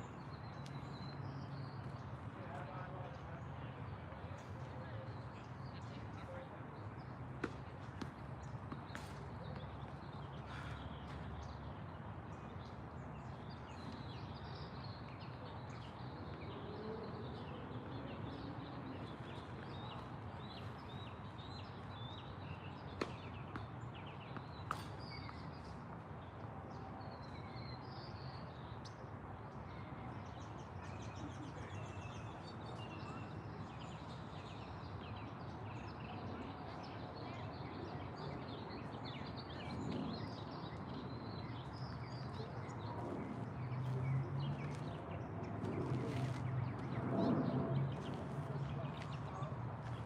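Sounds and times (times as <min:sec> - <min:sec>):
outdoor background noise: 0:00.0 - 0:50.0.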